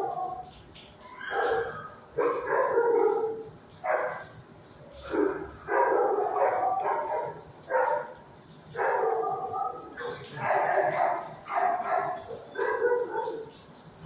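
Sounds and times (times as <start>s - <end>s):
dogs barking with echo: 0.0s - 13.8s.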